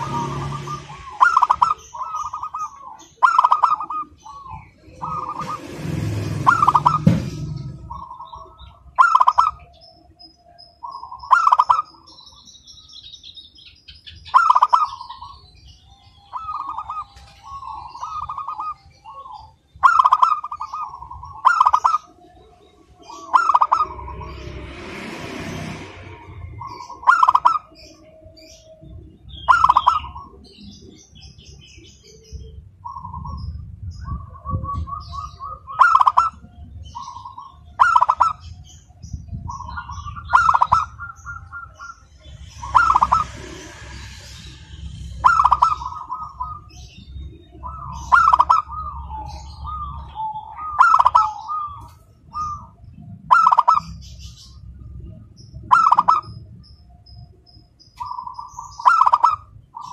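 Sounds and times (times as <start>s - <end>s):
dove cooing: 0.0s - 9.9s, 10.8s - 12.2s, 14.3s - 15.5s, 16.2s - 24.4s, 26.5s - 38.8s, 39.5s - 43.6s, 45.1s - 54.4s, 55.6s - 56.4s, 58.0s - 59.9s.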